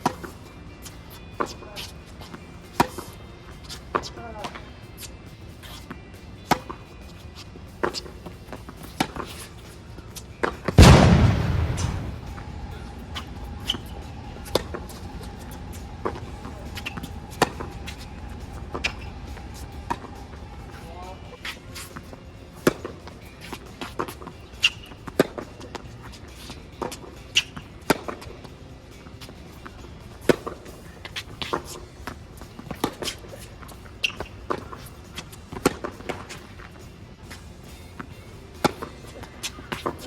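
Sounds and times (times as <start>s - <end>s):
shoes squeaking on court: 0.0s - 40.0s
tennis balls bouncing on court: 0.0s - 40.0s
tennis balls struck by racquets: 0.0s - 40.0s.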